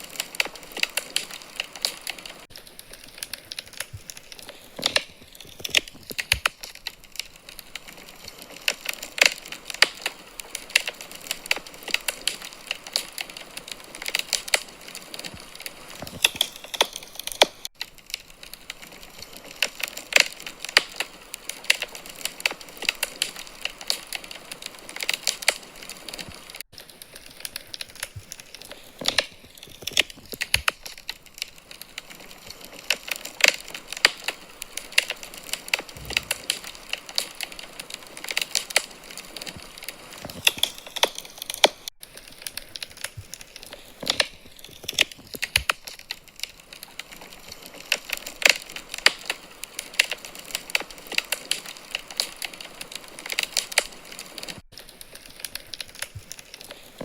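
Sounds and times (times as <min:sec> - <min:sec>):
logs popping and snapping: 0:00.0 - 0:57.0
wood fire crackling: 0:00.0 - 0:57.0.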